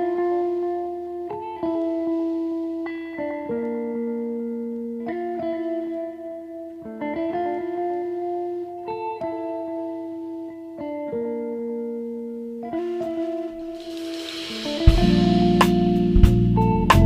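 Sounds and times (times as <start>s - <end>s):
guitar playing sustained chords: 0.0s - 17.0s.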